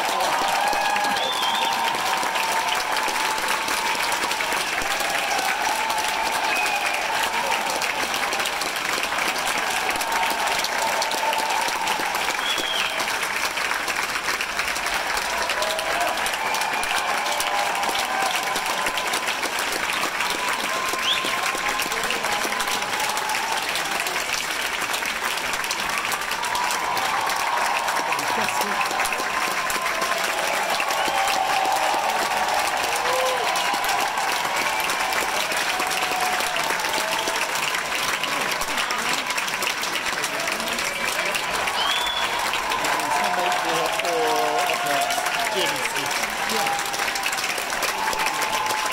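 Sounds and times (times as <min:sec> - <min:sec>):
audience applauding: 0:00.0 - 0:48.9.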